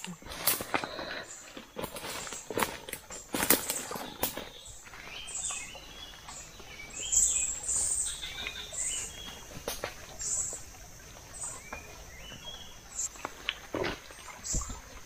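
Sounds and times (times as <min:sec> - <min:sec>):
forest birds chirping: 0:00.0 - 0:15.0.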